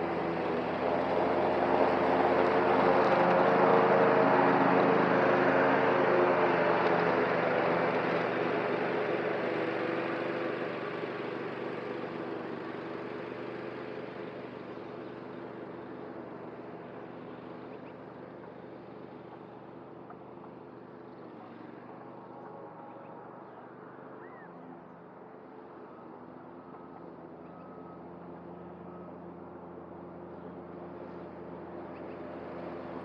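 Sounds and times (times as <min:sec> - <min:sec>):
lawn mower engine passing: 0:00.0 - 0:33.0.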